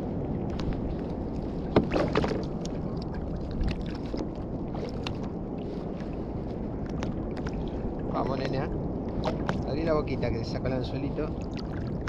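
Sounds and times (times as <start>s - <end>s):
sea water rushing: 0.0s - 12.0s
wind: 0.0s - 12.0s.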